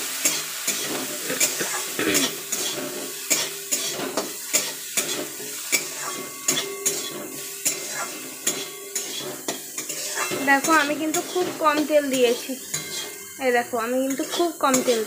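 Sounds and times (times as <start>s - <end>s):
vegetables sizzling in oil: 0.0s - 15.0s
metal spatula scraping a pan: 0.1s - 15.0s.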